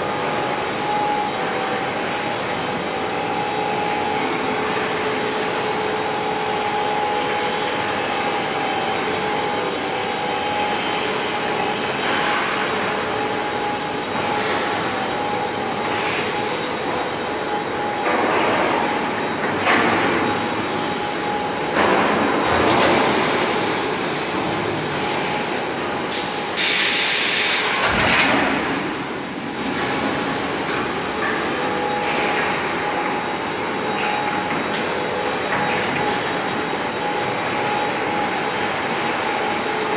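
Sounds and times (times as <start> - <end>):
machinery droning: 0.0 - 39.9.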